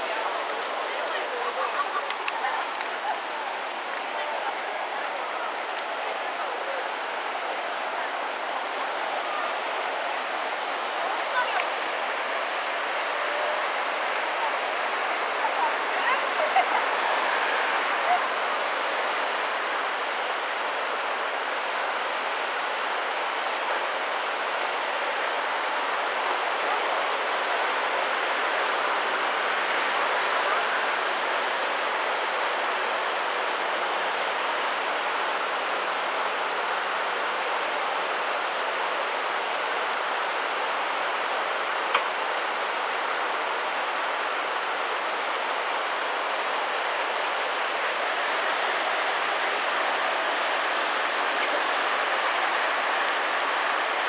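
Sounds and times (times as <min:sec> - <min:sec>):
river water rushing over weir: 0:00.0 - 0:54.0.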